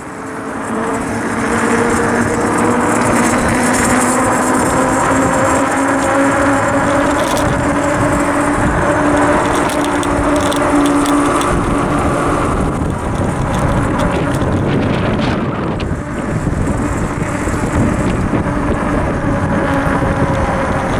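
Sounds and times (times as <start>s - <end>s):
electric hub motor hum: 0.0s - 20.9s
wind buffeting microphone: 0.0s - 20.9s.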